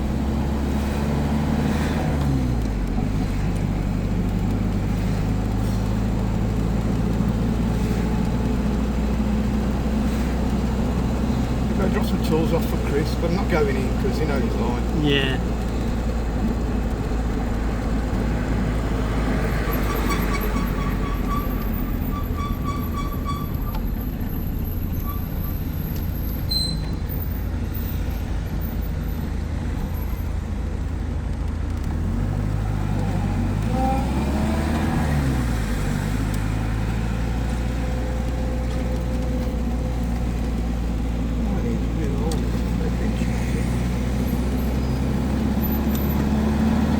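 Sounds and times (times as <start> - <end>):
car engine from inside cabin: 0.0 - 20.1, 20.8 - 46.9
road noise: 0.0 - 46.9.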